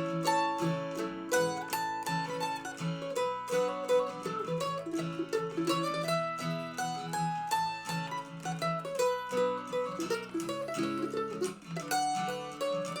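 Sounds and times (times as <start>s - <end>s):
acoustic guitar accompaniment: 0.0s - 13.0s
mandolin melody: 0.0s - 13.0s.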